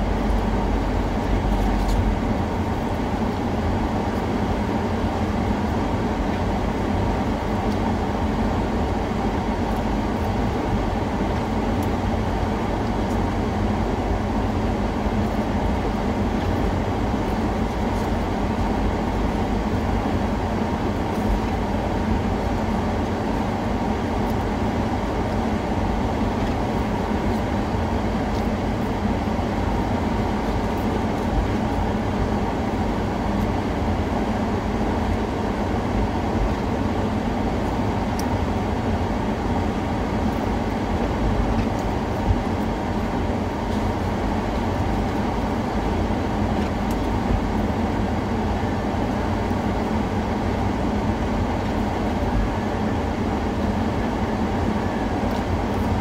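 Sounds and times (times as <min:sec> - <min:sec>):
vehicle rumble: 0:00.0 - 0:47.7.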